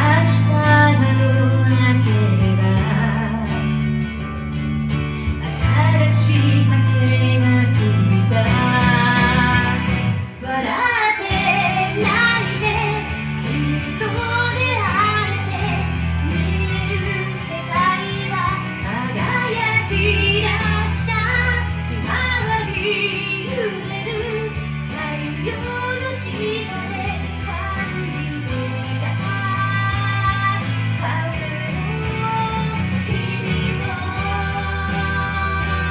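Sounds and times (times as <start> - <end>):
woman singing pop ballad: 0.0 - 4.3, 4.9 - 35.9
karaoke backing track: 0.0 - 35.9.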